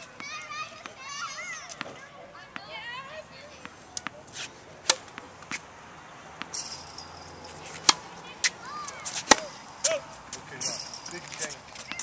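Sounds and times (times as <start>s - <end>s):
tennis balls struck and bouncing: 0.0s - 12.0s.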